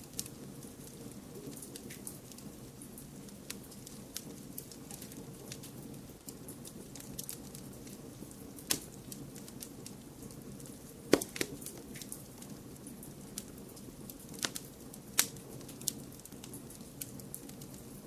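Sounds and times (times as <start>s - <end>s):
wood fire crackling: 0.0s - 18.0s
fire pops: 0.1s - 17.9s.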